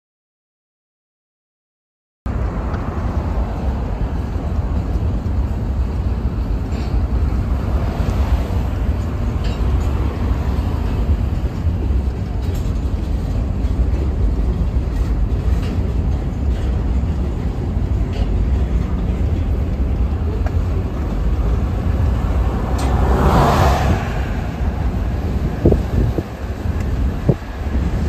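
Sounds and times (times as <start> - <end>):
freight train wheels rumbling: 2.3 - 28.0.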